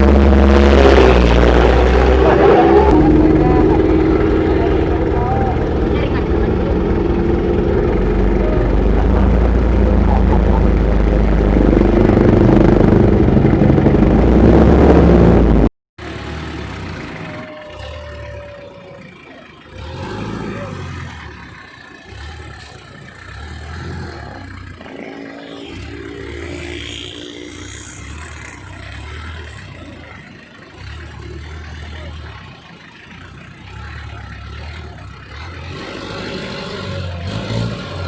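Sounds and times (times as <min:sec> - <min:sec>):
low rumbling and clatter: 0:00.0 - 0:38.0
small petrol engine running: 0:01.2 - 0:38.0.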